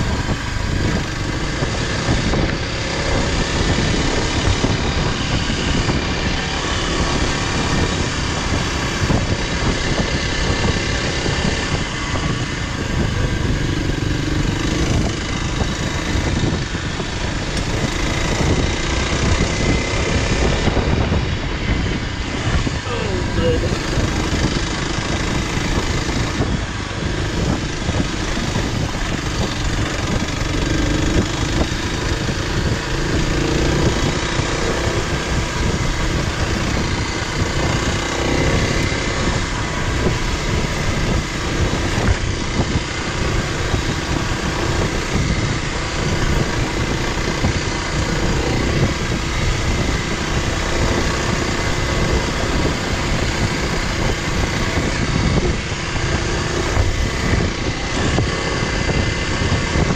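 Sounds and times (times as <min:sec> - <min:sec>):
dense rushing noise: 0:00.0 - 0:59.9
motorcycle engine running: 0:00.0 - 0:59.9.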